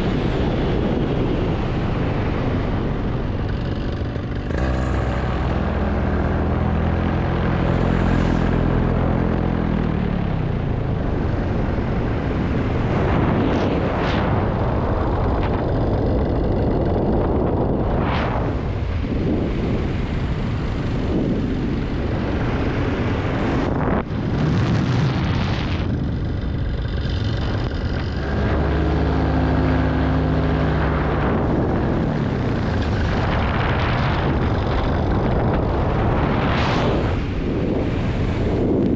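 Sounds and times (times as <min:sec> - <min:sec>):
paramotor engine and propeller: 0:00.0 - 0:38.9
wind rush on microphone: 0:00.0 - 0:38.9.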